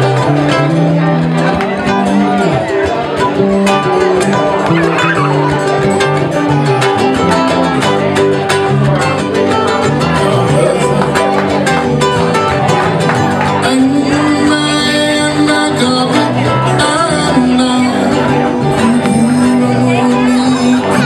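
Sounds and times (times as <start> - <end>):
electric bass: 0.0 - 21.0
electric guitar: 0.0 - 21.0
strummed acoustic guitar: 0.0 - 21.0
ukulele: 0.0 - 21.0.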